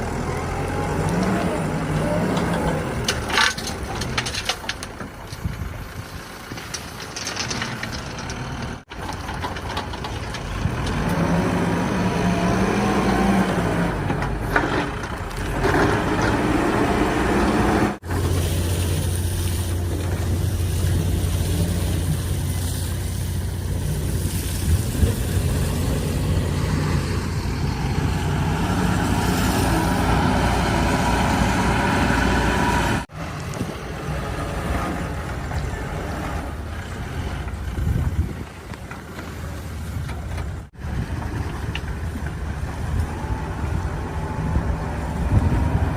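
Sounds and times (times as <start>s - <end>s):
heavy machinery diesel engine: 0.0s - 45.9s.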